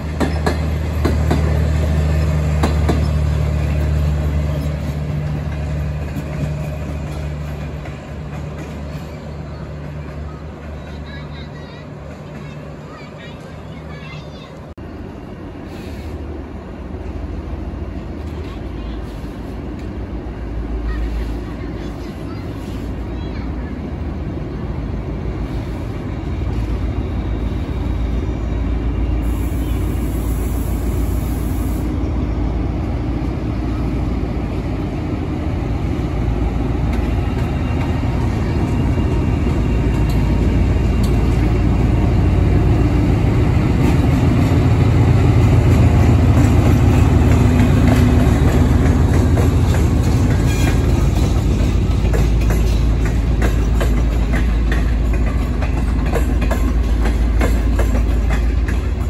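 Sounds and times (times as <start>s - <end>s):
train rumbling by: 0.0s - 59.0s.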